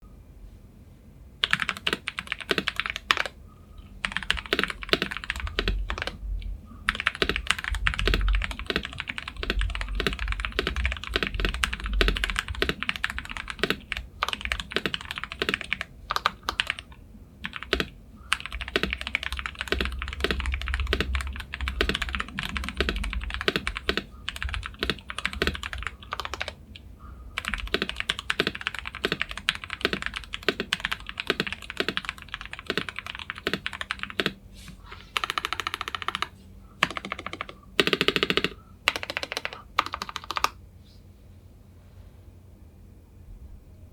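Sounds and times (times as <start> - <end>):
mechanical keyboard typing: 1.4 - 3.4, 4.0 - 6.2, 6.9 - 26.8, 27.4 - 34.4, 35.1 - 40.6.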